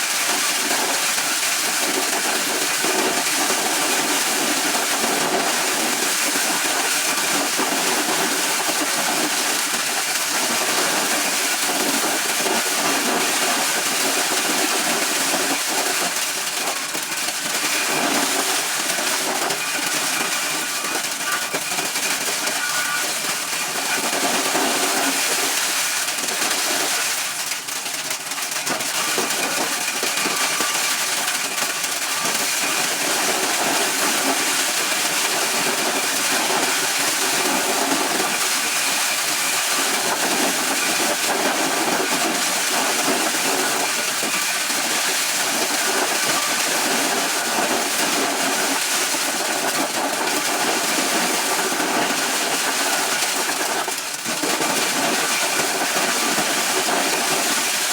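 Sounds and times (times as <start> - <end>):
corn shelling machine running: 0.0 - 57.9.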